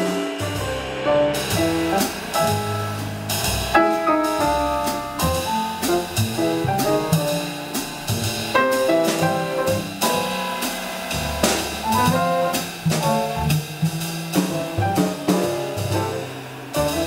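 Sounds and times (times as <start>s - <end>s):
double bass: 0.0s - 17.0s
drum kit with cymbals: 0.0s - 17.0s
piano: 0.0s - 17.0s.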